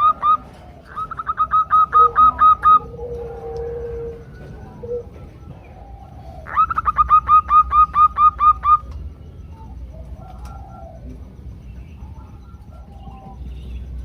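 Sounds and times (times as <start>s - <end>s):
faint dove calls: 0.0s - 11.4s
dove calling in clipped notes: 0.0s - 14.0s.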